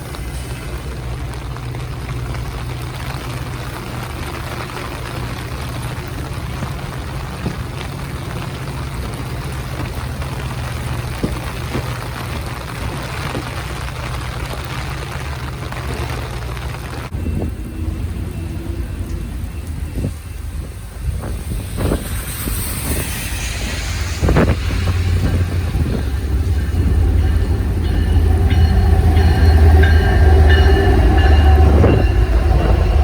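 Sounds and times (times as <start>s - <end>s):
diesel locomotive running: 0.0s - 33.0s.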